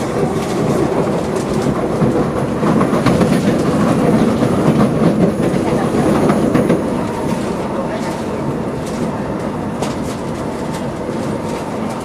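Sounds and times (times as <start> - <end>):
train running rumble: 0.0 - 12.0
wheels clattering on track: 0.0 - 12.0.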